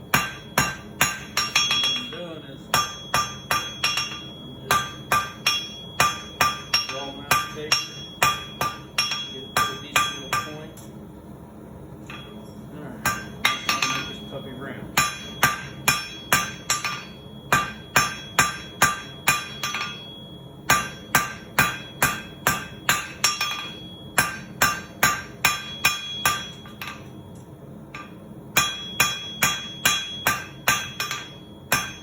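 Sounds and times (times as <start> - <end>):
hammer striking steel on anvil: 0.1 - 10.9, 12.0 - 32.0.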